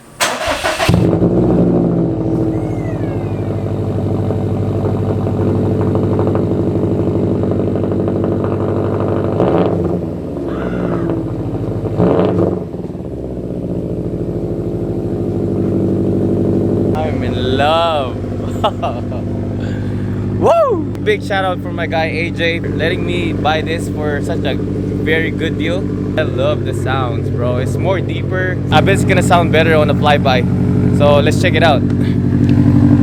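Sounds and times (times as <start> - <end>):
car engine starting and idling: 0.0 - 33.0
engine throttle blips: 0.0 - 33.0.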